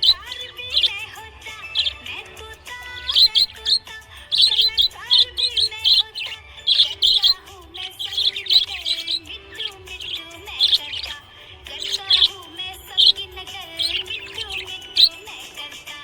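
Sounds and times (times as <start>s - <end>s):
background music: 0.0s - 16.0s
budgie chirping: 0.0s - 16.0s.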